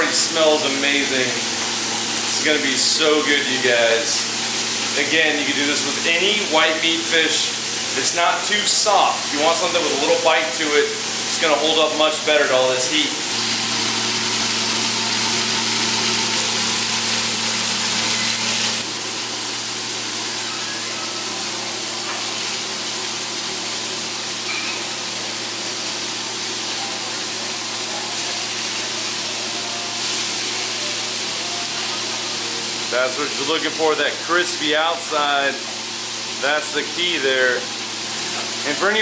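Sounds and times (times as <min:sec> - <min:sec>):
fish sizzling on griddle: 0:00.0 - 0:39.0.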